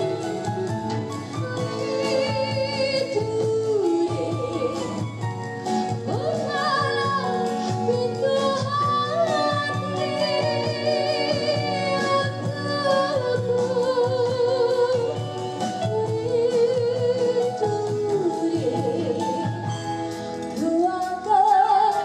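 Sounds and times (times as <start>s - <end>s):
woman singing with vibrato: 0.0s - 19.8s, 20.6s - 22.0s
amplified rock band: 0.0s - 22.0s.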